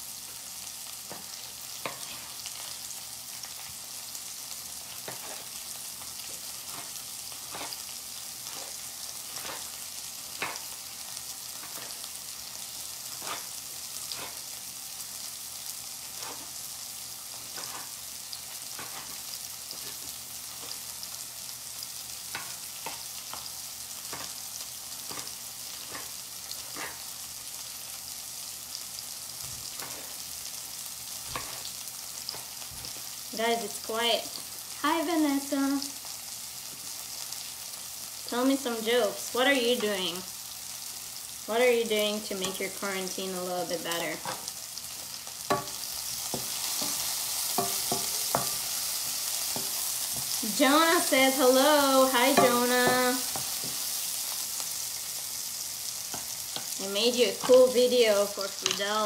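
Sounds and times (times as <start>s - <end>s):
vegetables sizzling in a frying pan: 0.0s - 59.0s.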